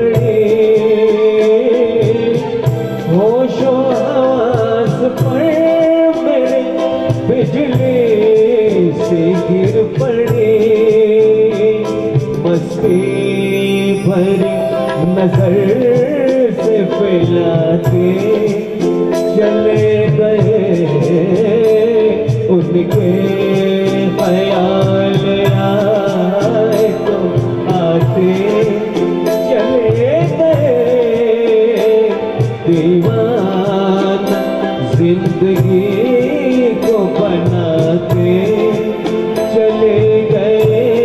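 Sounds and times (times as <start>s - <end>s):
keyboards: 0.0s - 41.0s
tabla: 0.0s - 41.0s
violin melody: 0.0s - 41.0s.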